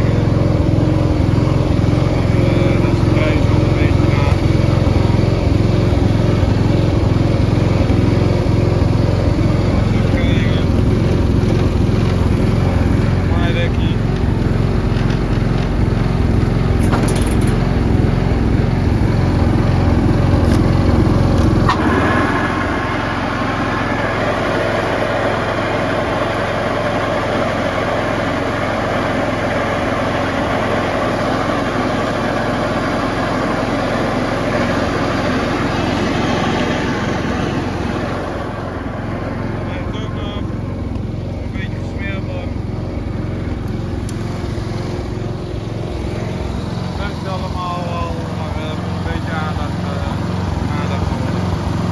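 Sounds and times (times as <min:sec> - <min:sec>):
ride-on mower engine running: 0:00.0 - 0:51.9.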